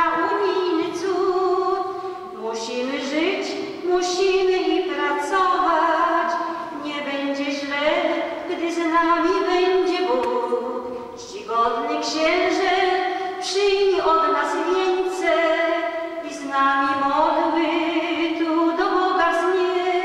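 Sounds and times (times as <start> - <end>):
woman singing unaccompanied: 0.0 - 20.0.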